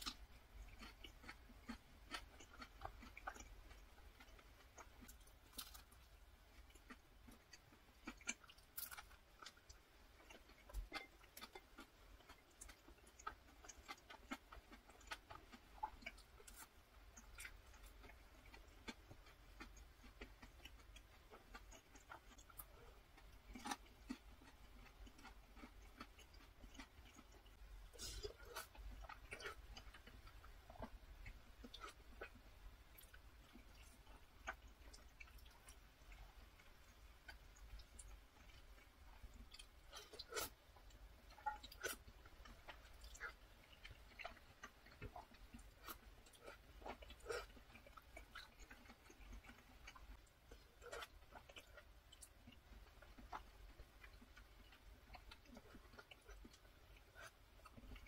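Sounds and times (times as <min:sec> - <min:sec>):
close-up chewing and mouth sounds: 0:00.0 - 0:58.0.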